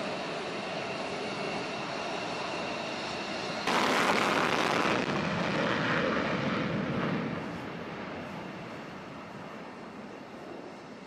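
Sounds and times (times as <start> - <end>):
jet engines whining: 0.0 - 11.0
jet taking off on afterburner: 0.0 - 11.0.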